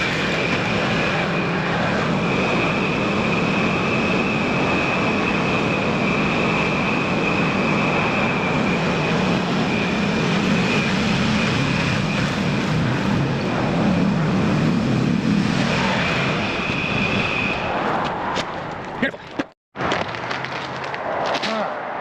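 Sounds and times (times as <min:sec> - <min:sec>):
high-pitched whine: 0:00.0 - 0:18.3.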